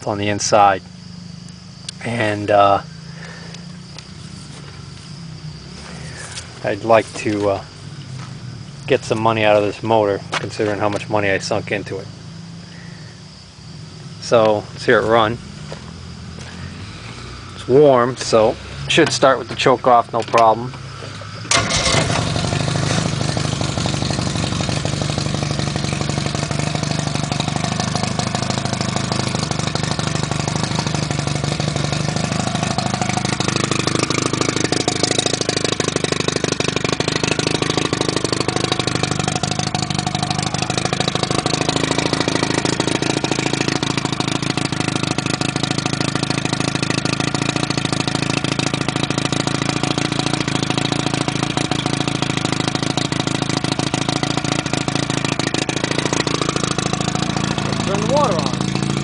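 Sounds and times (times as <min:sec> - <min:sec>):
outboard motor idling: 0:00.0 - 0:59.0.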